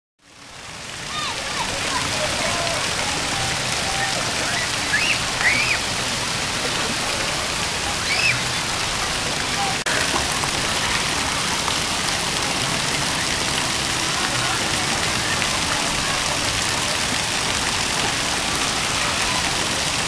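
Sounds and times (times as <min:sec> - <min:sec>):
water splashing in pool: 0:00.2 - 0:20.0.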